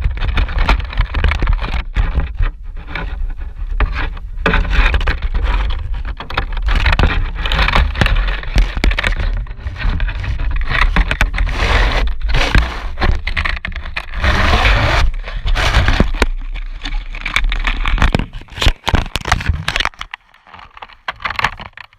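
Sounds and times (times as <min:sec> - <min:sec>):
crackles and clicks: 0:00.0 - 0:21.9
rough scraping and rumbling: 0:00.0 - 0:21.9.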